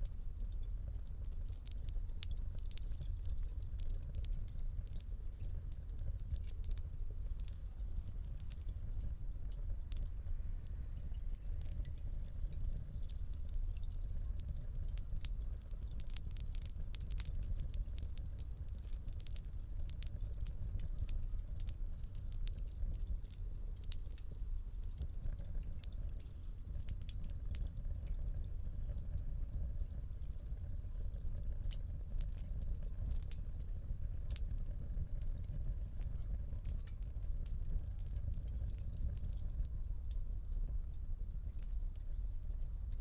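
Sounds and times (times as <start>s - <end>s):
fire popping and snapping: 0.0s - 43.0s
low rumble of flames: 0.0s - 43.0s.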